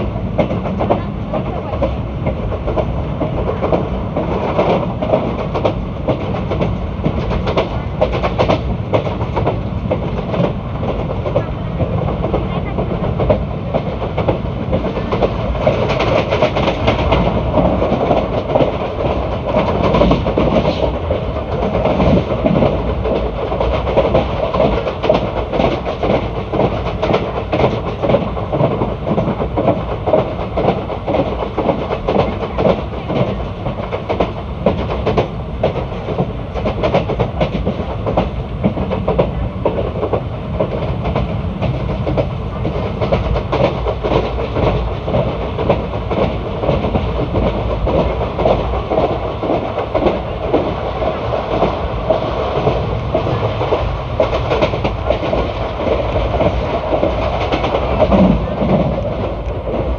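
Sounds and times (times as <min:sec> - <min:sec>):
train coach rumbling: 0:00.0 - 0:59.9.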